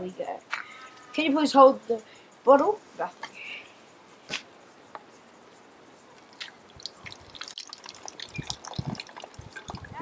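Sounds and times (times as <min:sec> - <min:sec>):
insect chirping: 0:00.0 - 0:10.0.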